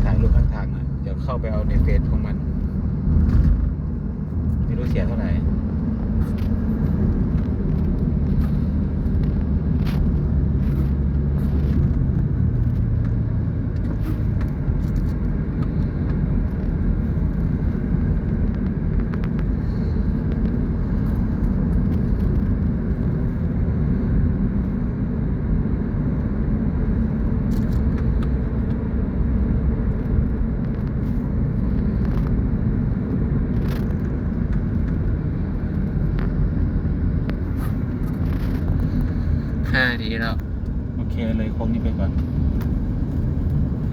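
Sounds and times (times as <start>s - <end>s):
car engine hum: 0.0s - 43.9s
road rumble inside car: 0.0s - 43.9s.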